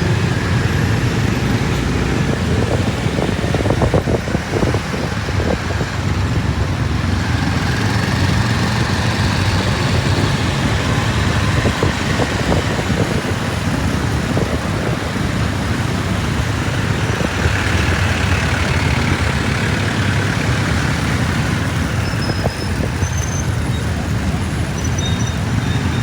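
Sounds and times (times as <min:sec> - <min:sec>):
motorcycle engine hum: 0:00.0 - 0:26.0
other traffic: 0:00.0 - 0:26.0
road noise: 0:00.0 - 0:26.0
wind noise: 0:00.0 - 0:26.0.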